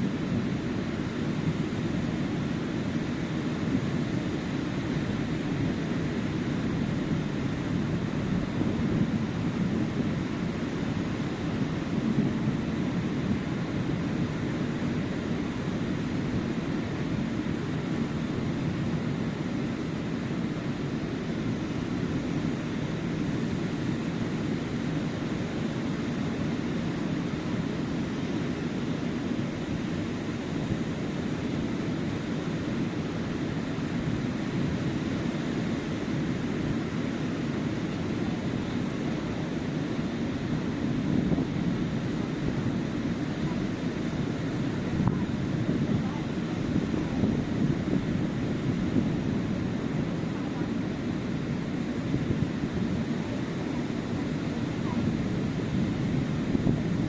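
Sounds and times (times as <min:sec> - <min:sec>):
ocean surf rushing: 0:00.0 - 0:57.0.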